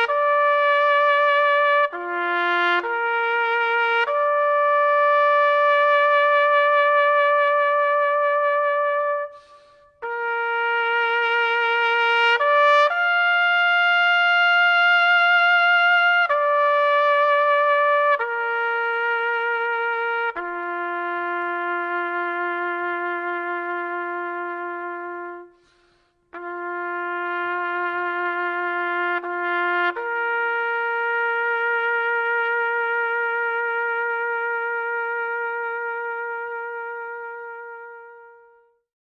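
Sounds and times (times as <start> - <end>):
solo trumpet long notes: 0.0 - 38.9.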